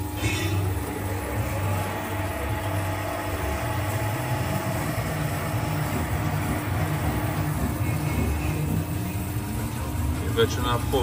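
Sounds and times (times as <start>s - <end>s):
test machine pulsing low hum: 0.0s - 11.0s.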